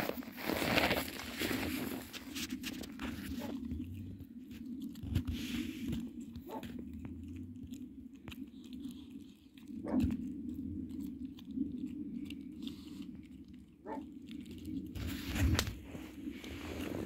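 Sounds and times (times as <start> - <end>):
animal chewing food: 0.0 - 17.0.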